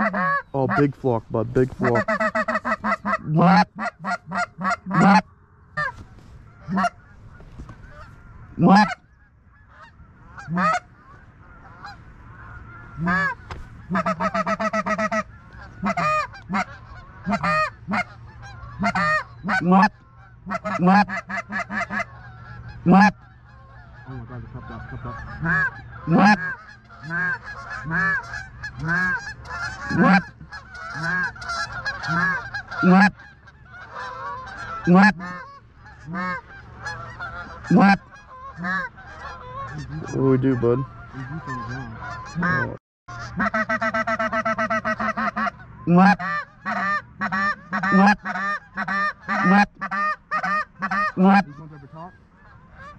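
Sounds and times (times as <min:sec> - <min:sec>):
faint geese honking and clucking: 0:00.0 - 0:52.9
loud goose honks: 0:00.0 - 0:52.9.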